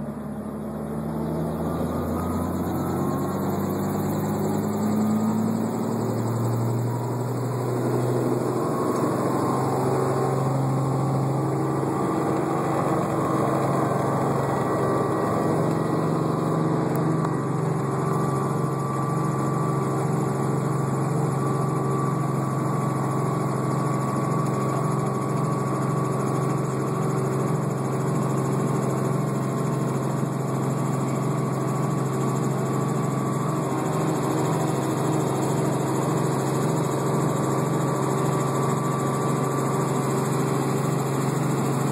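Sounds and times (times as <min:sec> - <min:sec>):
helicopter engine and rotor: 0:00.0 - 0:41.9.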